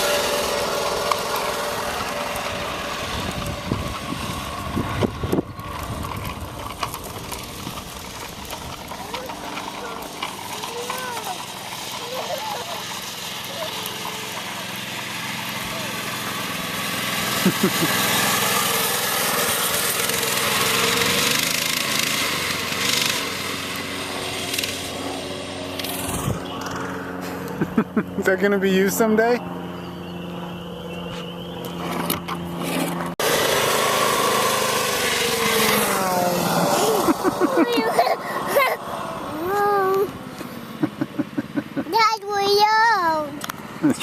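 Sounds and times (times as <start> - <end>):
mini bike engine running: 0.0 - 44.0.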